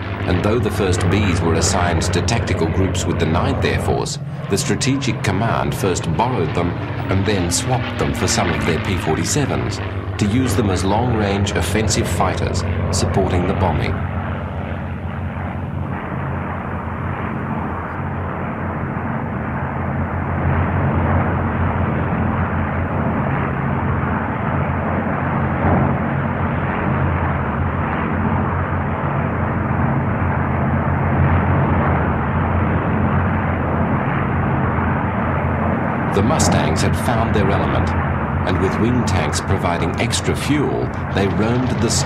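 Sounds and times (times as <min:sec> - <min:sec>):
propeller aircraft droning: 0:00.0 - 0:42.0.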